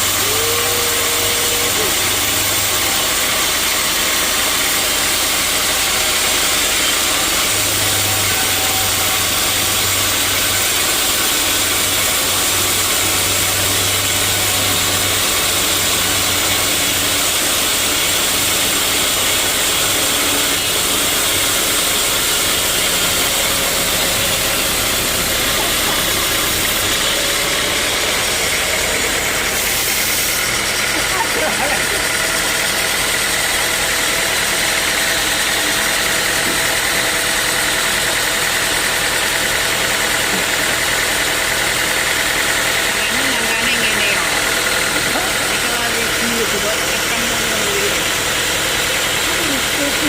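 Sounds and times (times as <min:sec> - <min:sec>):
sawmill machinery running: 0:00.0 - 0:50.0.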